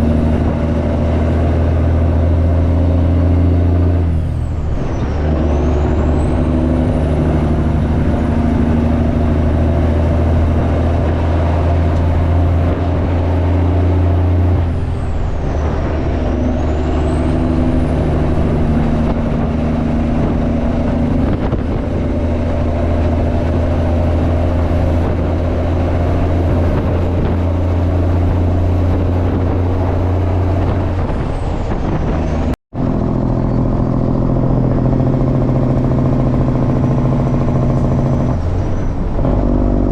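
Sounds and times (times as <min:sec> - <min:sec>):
diesel truck engine: 0:00.0 - 0:39.9.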